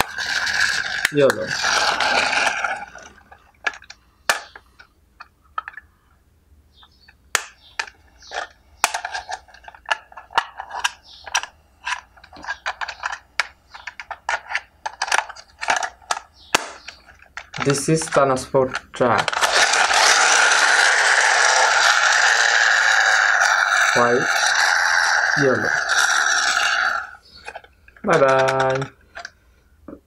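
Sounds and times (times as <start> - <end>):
plastic toy parts clicking: 0.0 - 2.8, 7.3 - 29.4.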